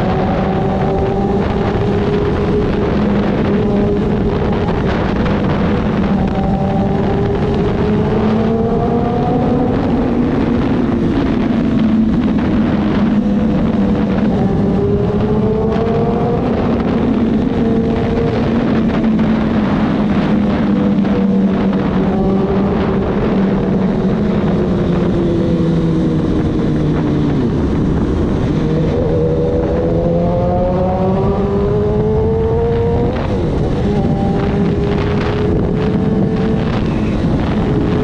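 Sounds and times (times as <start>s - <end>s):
motorcycle engine in a tunnel: 0.0s - 38.0s.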